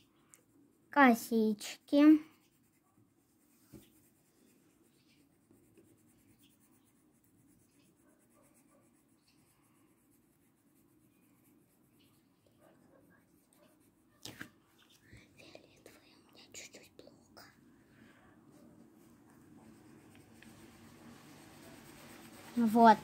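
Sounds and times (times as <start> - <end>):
pencil scratching on paper: 0.5 - 17.4, 18.4 - 23.0.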